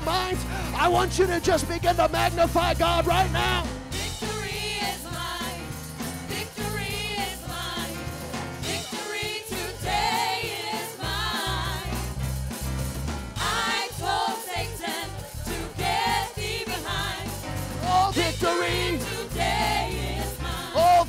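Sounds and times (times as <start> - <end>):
singers singing gospel: 0.0 - 12.4, 13.4 - 21.0
band accompaniment: 0.0 - 21.0.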